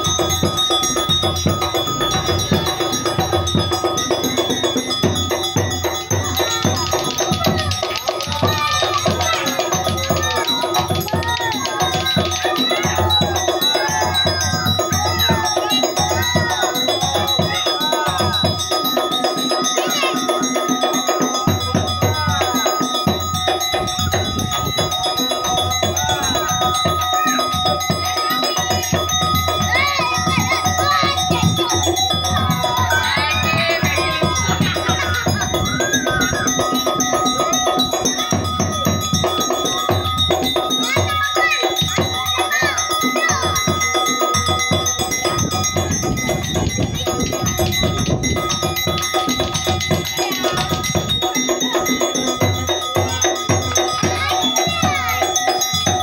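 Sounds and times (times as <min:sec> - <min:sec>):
drum beating steadily: 0:00.0 - 0:56.0
voices: 0:00.0 - 0:56.0.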